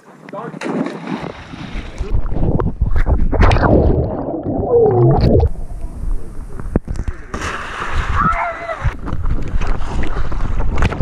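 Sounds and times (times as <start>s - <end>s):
underwater water rushing and bubbling: 1.2s - 11.0s.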